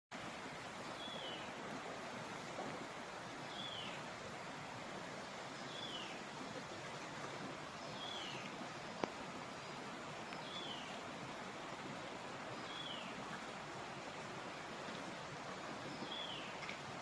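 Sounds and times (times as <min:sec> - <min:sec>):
steady rain hiss: 0:00.1 - 0:17.0.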